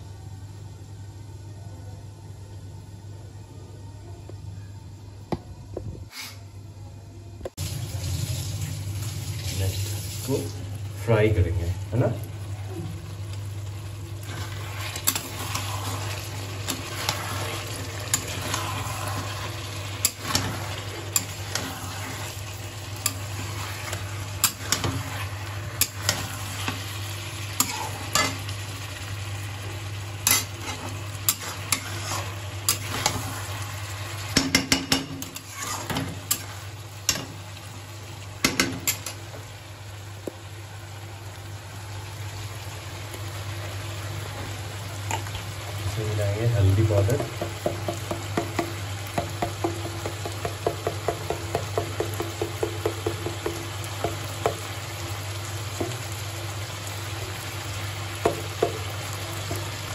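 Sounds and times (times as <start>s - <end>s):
food sizzling in oil: 7.6s - 59.9s.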